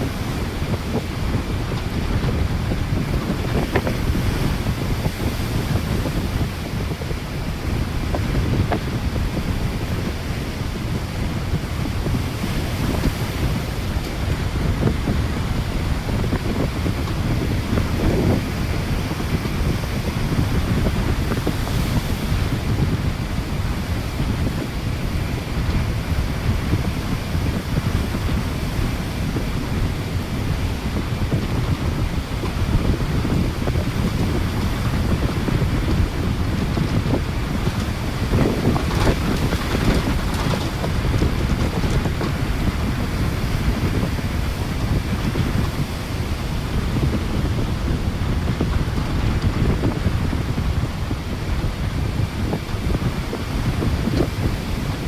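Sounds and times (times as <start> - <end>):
rough sea waves: 0.0 - 55.0
strong wind buffeting microphone: 0.0 - 55.0.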